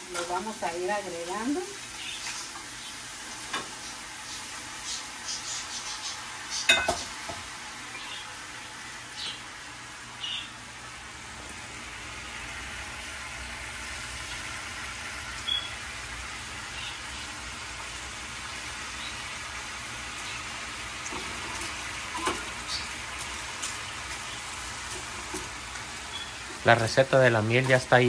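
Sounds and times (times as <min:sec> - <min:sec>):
syrup sizzling in a skillet: 0:00.0 - 0:28.0.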